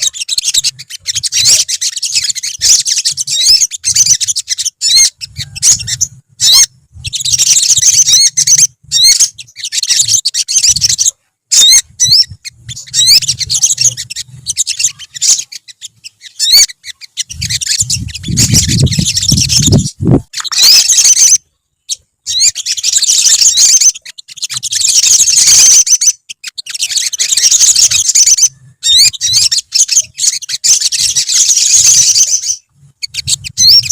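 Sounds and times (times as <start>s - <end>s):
sunbirds chirping and singing: 0.0s - 33.9s.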